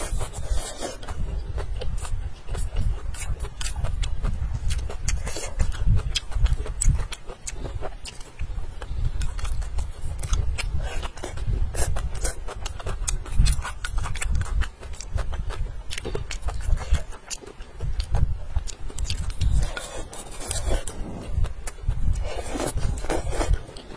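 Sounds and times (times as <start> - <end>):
person chewing and slurping: 0.0 - 23.9.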